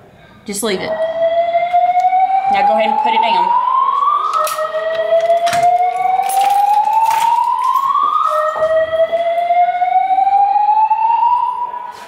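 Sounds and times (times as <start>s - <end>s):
fire alarm whoop tone: 0.7s - 12.0s.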